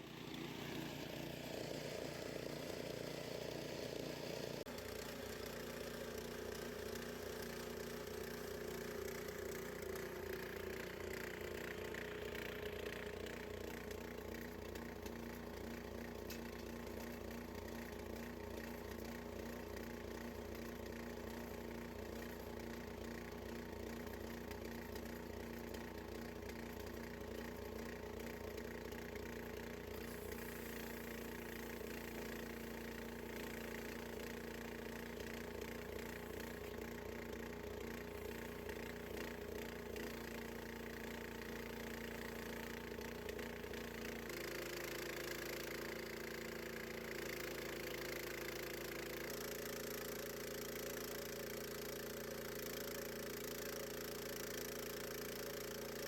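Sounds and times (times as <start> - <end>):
sawmill gas engine running: 0.0 - 56.0.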